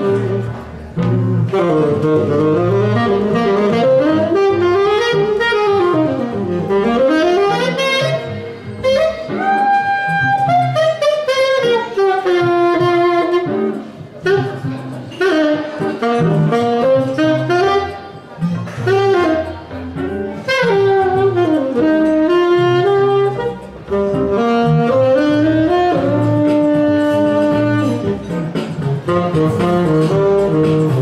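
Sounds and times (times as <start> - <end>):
backing track with bass line: 0.0 - 31.0
saxophone playing jazz melody: 0.0 - 31.0.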